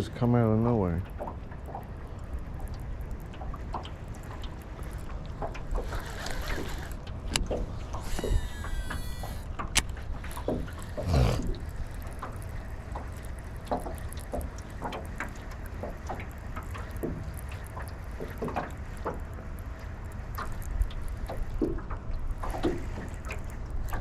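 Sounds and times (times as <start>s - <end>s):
low wind rumble: 0.0s - 24.0s.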